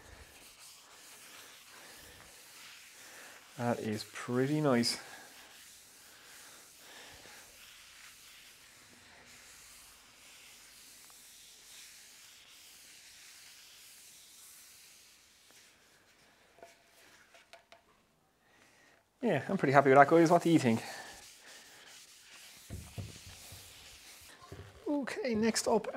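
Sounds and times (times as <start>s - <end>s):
cloth rubbing on wood: 0.0s - 17.6s, 19.4s - 25.9s.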